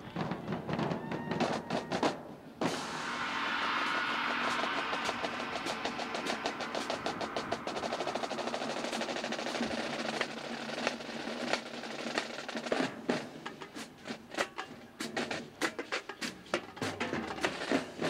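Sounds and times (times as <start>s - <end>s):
snare drumline playing: 0.0s - 18.0s.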